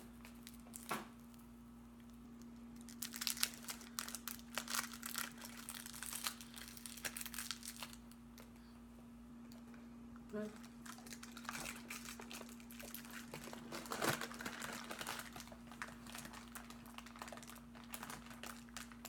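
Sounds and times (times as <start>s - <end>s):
steady low hum: 0.0s - 19.0s
candy wrapper crinkling: 0.2s - 8.5s, 10.6s - 19.0s.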